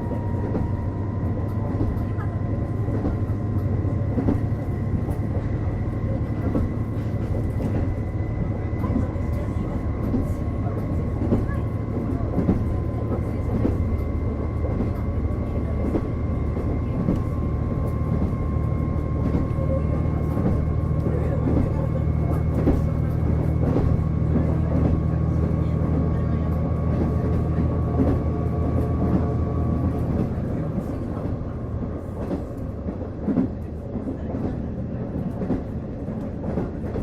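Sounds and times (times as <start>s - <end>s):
wheels clicking on track: 0.0s - 37.0s.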